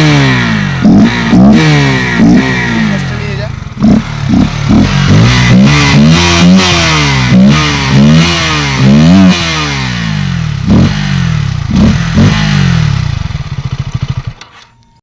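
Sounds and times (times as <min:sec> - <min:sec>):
motorcycle engine idling: 0:00.0 - 0:14.6
motorcycle engine revving: 0:00.0 - 0:14.6.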